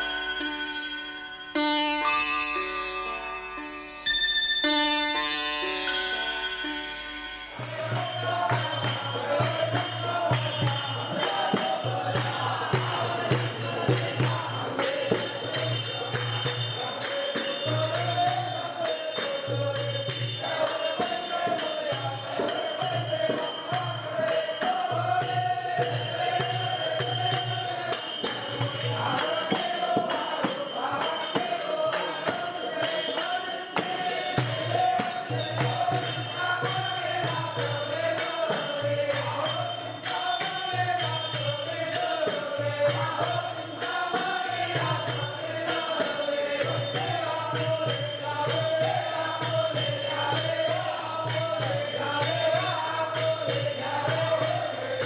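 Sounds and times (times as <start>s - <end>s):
jingling percussion: 0.0s - 55.0s
voices chanting a melody: 5.6s - 55.0s.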